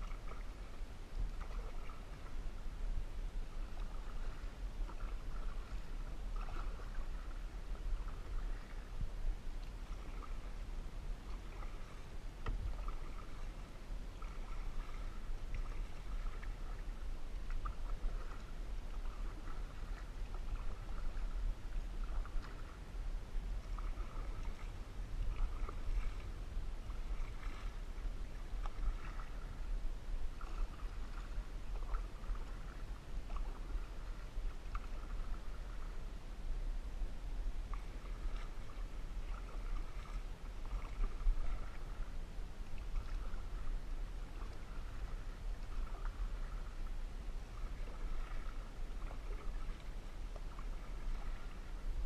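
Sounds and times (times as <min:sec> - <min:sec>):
paddle strokes in water: 0:00.0 - 0:52.0
steady low rumble: 0:00.0 - 0:52.0.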